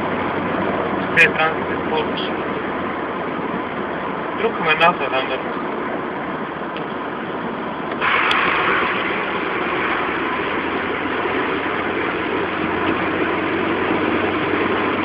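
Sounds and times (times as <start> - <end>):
car cabin noise at speed: 0.0 - 15.0.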